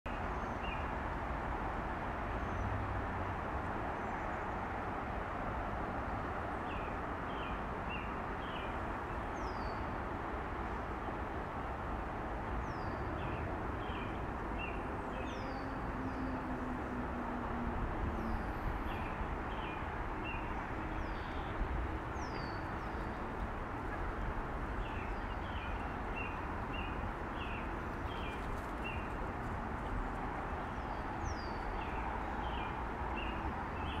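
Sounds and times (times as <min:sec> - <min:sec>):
steady outdoor noise: 0:00.1 - 0:34.0.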